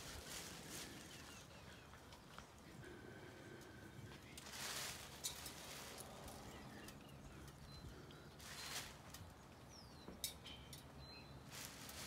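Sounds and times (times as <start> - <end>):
rustling and scraping of debris: 0.0 - 3.0, 3.6 - 12.0.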